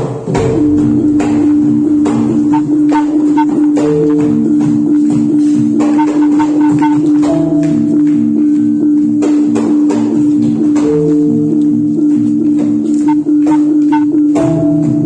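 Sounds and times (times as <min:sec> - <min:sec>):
drum and jingle strokes: 0:00.2 - 0:15.0
metallophone notes: 0:00.3 - 0:15.0.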